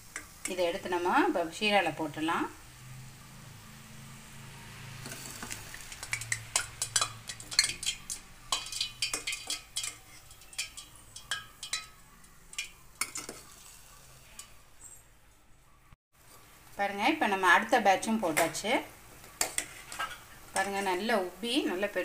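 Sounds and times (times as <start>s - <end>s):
dough sizzling in hot oil: 0.0s - 14.9s, 16.2s - 22.0s.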